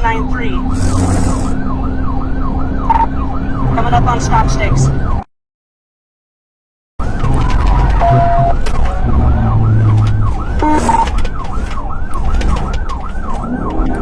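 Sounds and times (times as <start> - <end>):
car engine and road rumble: 0.0 - 5.2, 7.0 - 14.0
police siren yelp: 0.0 - 5.3, 7.0 - 14.0.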